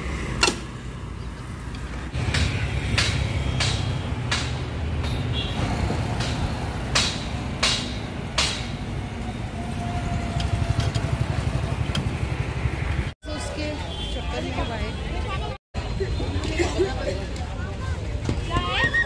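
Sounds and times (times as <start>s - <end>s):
passing traffic: 0.0s - 19.0s.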